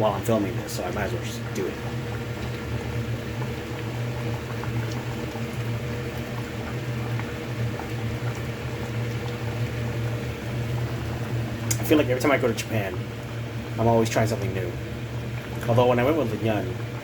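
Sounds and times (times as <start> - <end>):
constant low hum: 0.0 - 17.0
water bubbling in a pot: 0.0 - 17.0.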